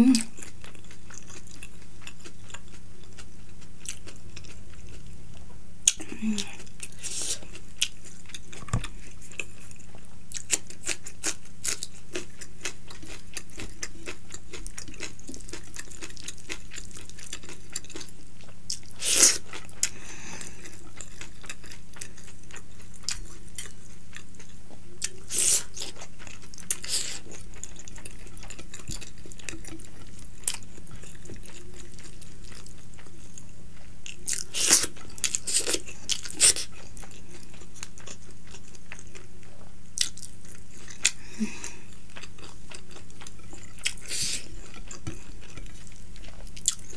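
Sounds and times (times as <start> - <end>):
chewing and wet mouth sounds: 0.1 - 5.1, 5.8 - 46.9.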